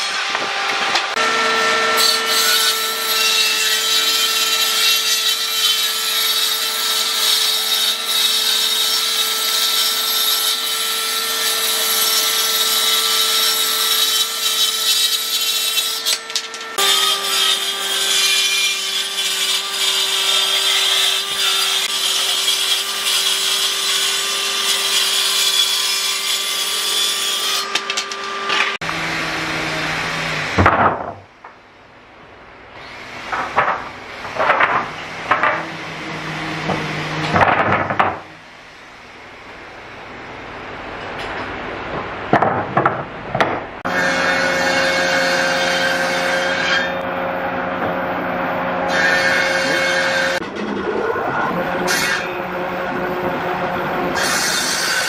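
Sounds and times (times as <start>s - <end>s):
power tool cutting wood: 0.0s - 30.7s, 32.8s - 38.4s, 43.8s - 55.0s.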